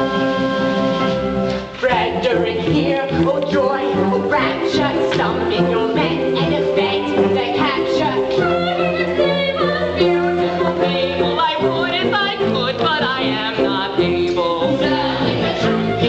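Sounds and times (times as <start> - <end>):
chorus singing with instruments: 0.0 - 16.0.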